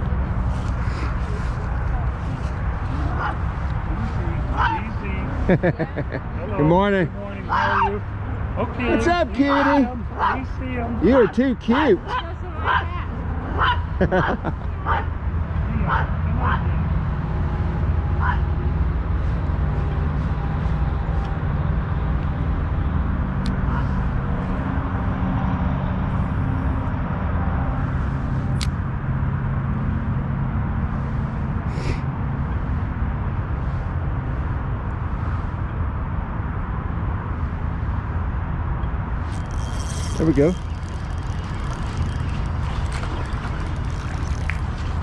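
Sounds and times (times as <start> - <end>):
traffic rumble: 0.0 - 45.0.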